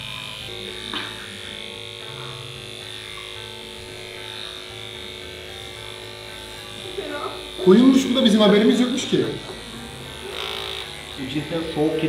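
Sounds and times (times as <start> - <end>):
electric clippers humming: 0.0 - 12.0.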